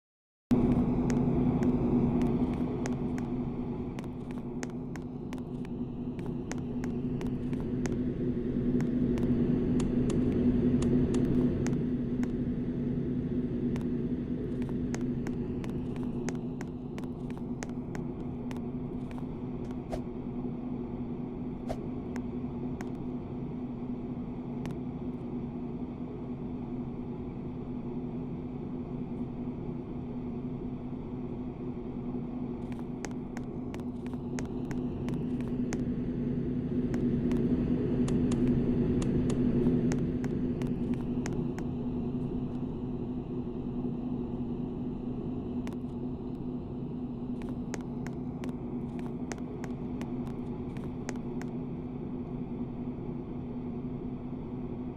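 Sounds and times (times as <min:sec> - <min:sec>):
ceiling fan motor hum: 0:00.5 - 0:54.9.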